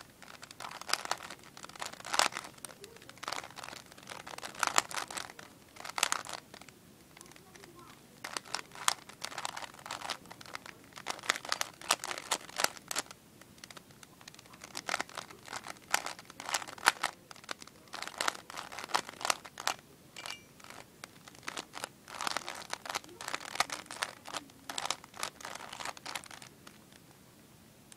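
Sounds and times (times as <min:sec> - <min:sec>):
puzzle cube plastic clicking: 0:00.2 - 0:19.8, 0:20.6 - 0:27.0.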